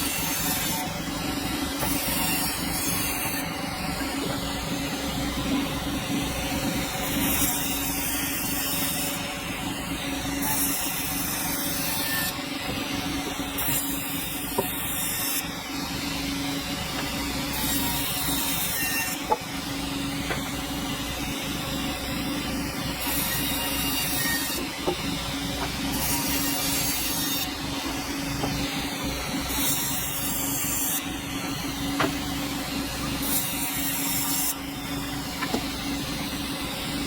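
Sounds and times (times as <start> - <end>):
sawmill humming and hissing: 0.0 - 37.0.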